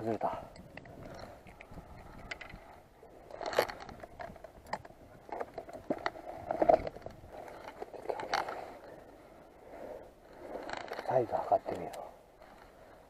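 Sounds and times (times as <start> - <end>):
fishing gear being handled: 0.8 - 13.0.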